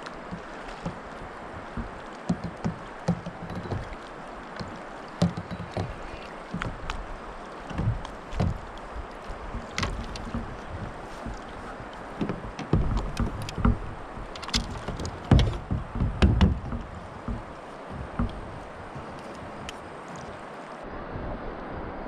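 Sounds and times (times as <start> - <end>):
knocks and clicks on boat: 0.0 - 20.6
river water washing around kayak: 0.0 - 22.0.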